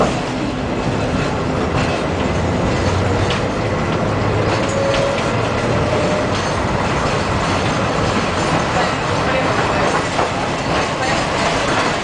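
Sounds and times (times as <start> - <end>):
tram wheels and motors rumbling: 0.0 - 12.0
wheels clicking over rail joints: 0.0 - 12.0.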